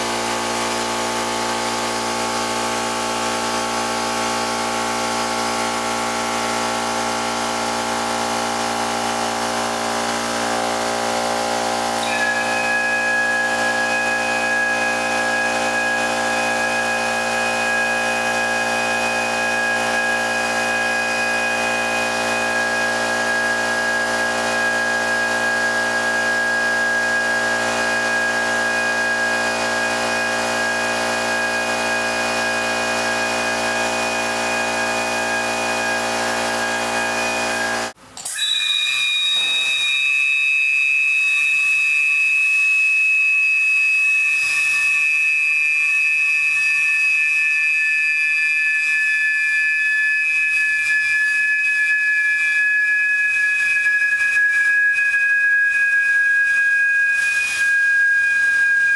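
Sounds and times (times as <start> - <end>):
air-blown whistles chord: 11.7 - 58.9.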